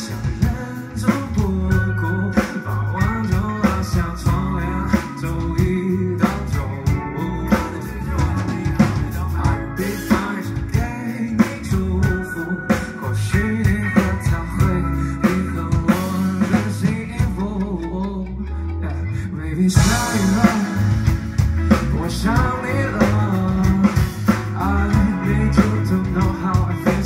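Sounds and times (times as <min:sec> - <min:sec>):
drum hits: 0:00.0 - 0:14.8, 0:19.8 - 0:27.0
live band playing: 0:00.0 - 0:27.0.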